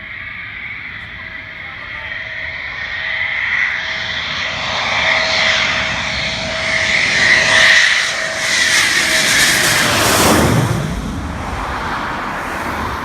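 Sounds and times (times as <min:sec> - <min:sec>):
jet engines whining and rushing: 0:00.0 - 0:13.0.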